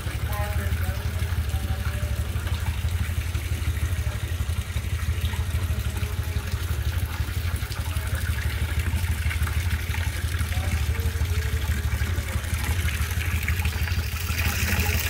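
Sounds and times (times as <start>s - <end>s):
motor humming with fast pulsing: 0.0s - 15.0s.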